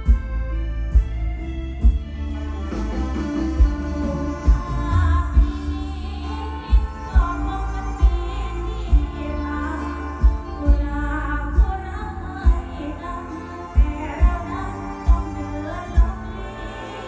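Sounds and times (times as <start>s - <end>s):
heavy bass drum beats: 0.0s - 16.9s
woman singing with band: 2.2s - 17.0s.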